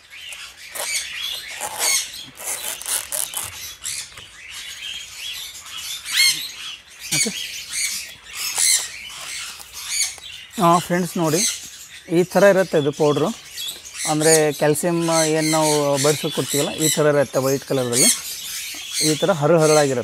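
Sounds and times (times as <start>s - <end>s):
parrots chirping and squawking: 0.0s - 20.0s.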